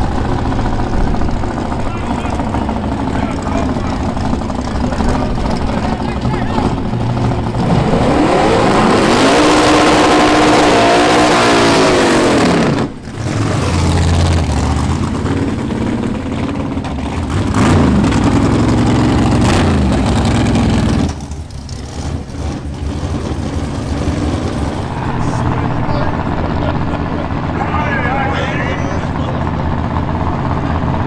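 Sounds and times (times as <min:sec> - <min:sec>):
drag race car engines revving: 0:00.0 - 0:31.0.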